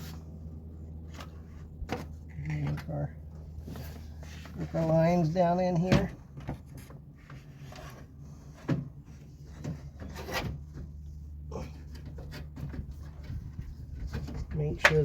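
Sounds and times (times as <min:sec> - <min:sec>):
radiator knocking and rubbing: 0:00.0 - 0:15.0
steady low hum: 0:00.0 - 0:15.0.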